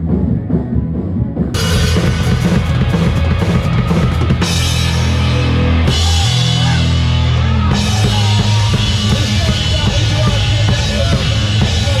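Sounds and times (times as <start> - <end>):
drums and cymbals: 0.0 - 12.0
loud rock music: 0.0 - 12.0.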